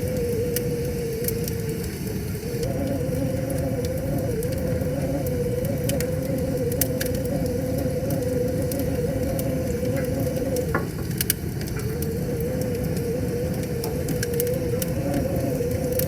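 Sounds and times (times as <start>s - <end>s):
steady wavering hum: 0.0s - 16.0s
wood fire crackling: 0.0s - 16.0s.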